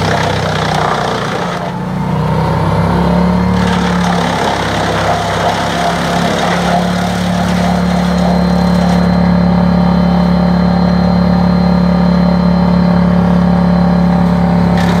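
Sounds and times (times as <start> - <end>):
wood chipper humming: 0.0 - 15.0.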